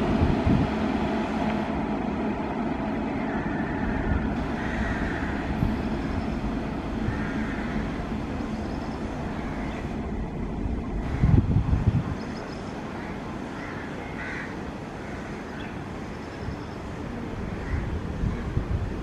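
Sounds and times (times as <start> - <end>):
locomotive wheels on rails: 0.0 - 19.0.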